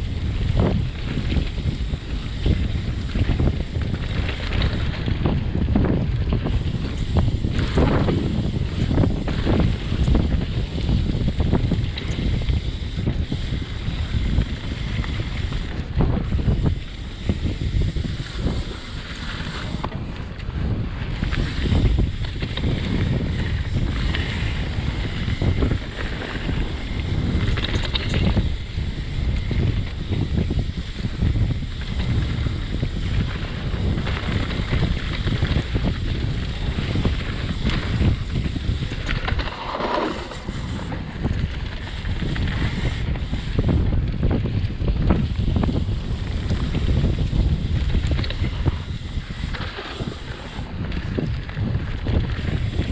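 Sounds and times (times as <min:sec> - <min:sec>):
tyres rolling on dirt trail: 0:00.0 - 0:52.9
wind buffeting microphone: 0:00.0 - 0:52.9.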